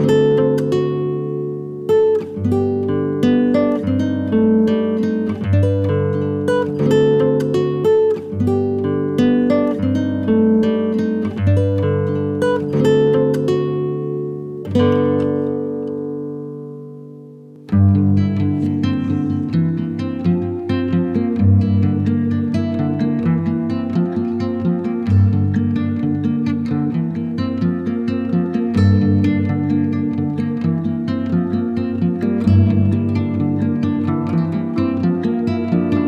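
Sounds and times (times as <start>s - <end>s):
acoustic guitar picking: 0.0s - 36.0s.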